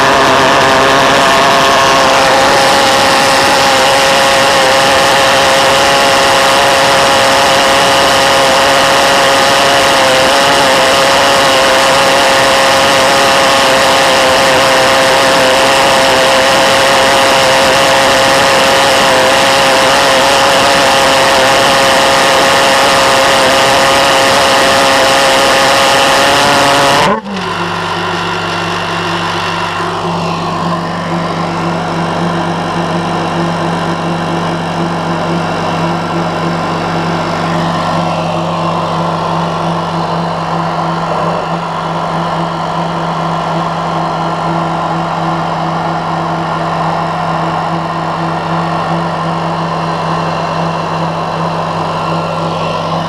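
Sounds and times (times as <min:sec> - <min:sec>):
low engine drone: 0:00.0 - 0:53.0
pulse jet engine buzzing: 0:00.0 - 0:53.0.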